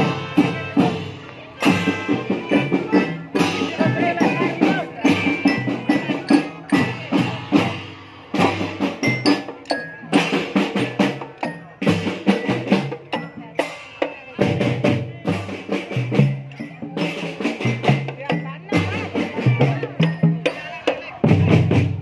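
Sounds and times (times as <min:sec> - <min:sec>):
bell-like mallet notes: 0:00.0 - 0:21.5
snare and bass drums: 0:00.0 - 0:22.0.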